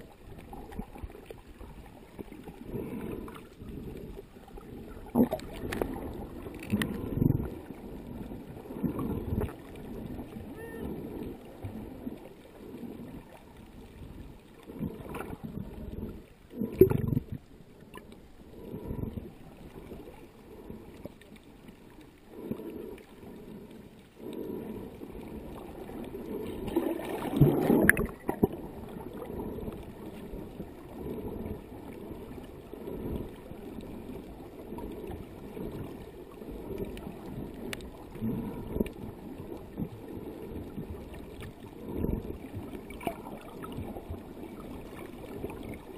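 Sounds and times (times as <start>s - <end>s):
underwater sloshing and bubbling: 0.0s - 45.9s.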